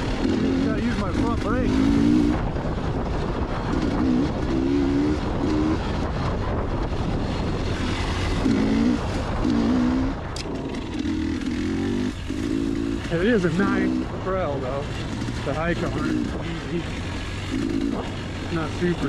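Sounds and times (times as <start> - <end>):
constant low rumble: 0.0 - 19.0
dirt bike engine revving: 0.0 - 19.0.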